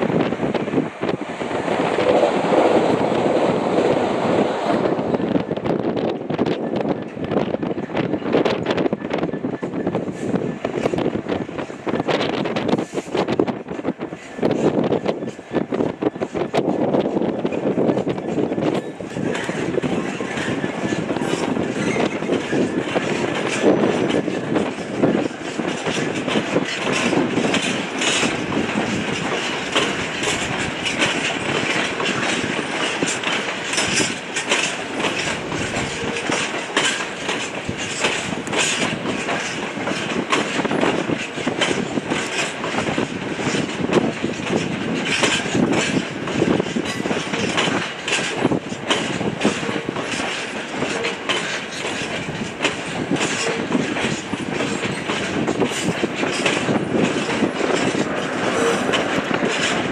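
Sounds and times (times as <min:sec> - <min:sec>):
train rumble: 0:00.0 - 0:59.9
train wheels clattering: 0:00.0 - 0:59.9.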